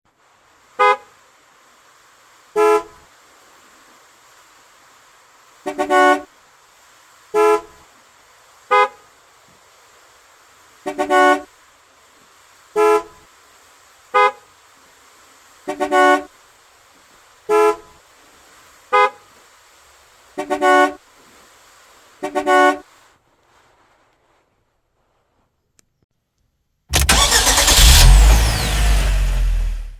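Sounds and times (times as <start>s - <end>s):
faint steady hiss: 0.1s - 29.9s.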